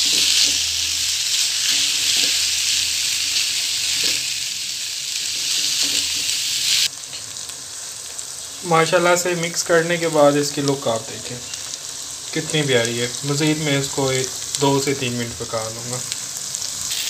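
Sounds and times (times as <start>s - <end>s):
lentils sizzling in oil: 0.0s - 17.0s.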